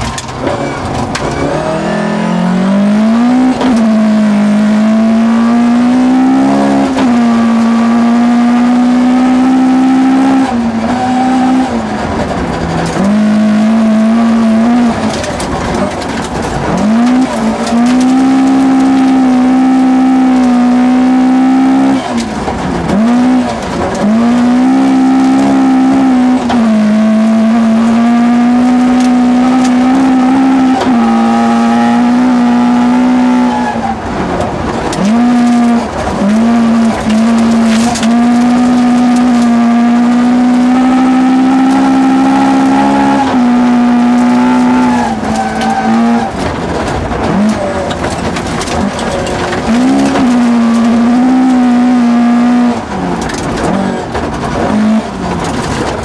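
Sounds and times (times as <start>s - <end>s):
rally car engine at high revs: 0.0s - 56.0s.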